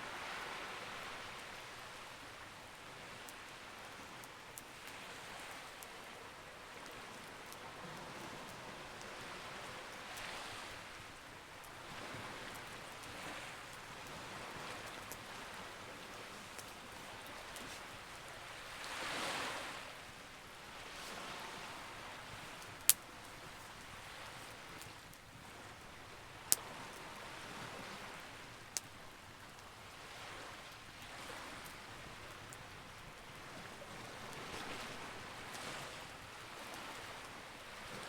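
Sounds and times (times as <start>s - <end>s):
campfire crackling: 0.1s - 38.0s.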